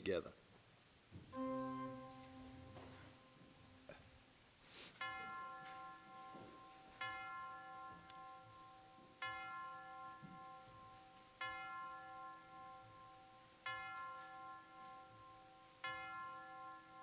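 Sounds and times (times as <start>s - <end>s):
bell tolling: 1.4s - 4.3s, 5.0s - 17.0s.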